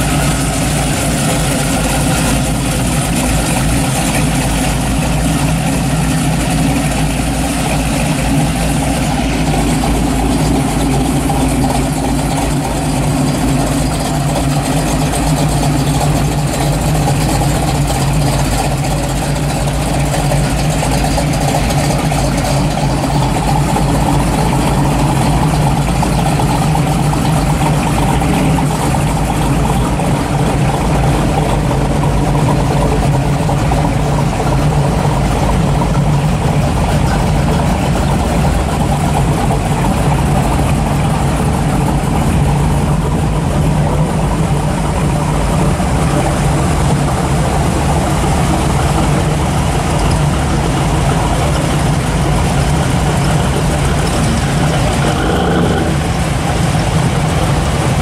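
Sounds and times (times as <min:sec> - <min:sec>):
car engines running loudly: 0:00.0 - 0:58.0.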